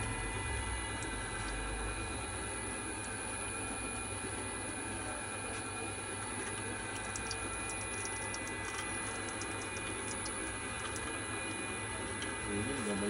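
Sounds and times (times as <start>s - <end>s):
oil press motor humming: 0.0s - 13.0s.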